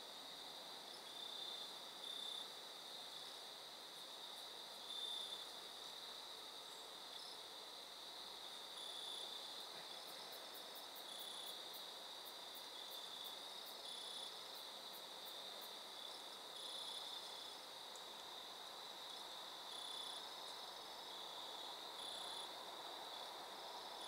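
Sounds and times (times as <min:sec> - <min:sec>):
crickets and insects chirping: 0:00.0 - 0:24.0.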